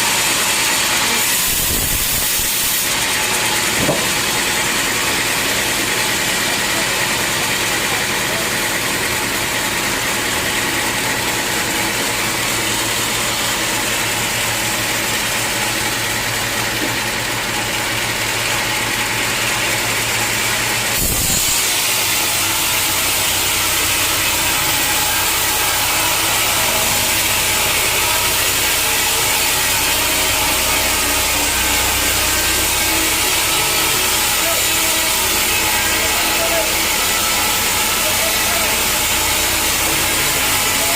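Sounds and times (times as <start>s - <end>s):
continuous machinery whine: 0.0s - 40.9s
sawmill machinery drone: 0.0s - 40.9s.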